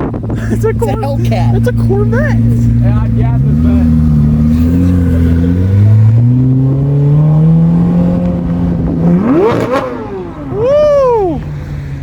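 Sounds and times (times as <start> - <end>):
car engine accelerating and revving: 0.0 - 12.0.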